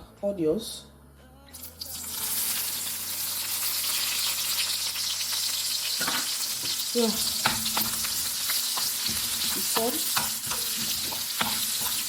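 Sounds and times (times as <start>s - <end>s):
onions sizzling in oil: 1.8s - 12.0s.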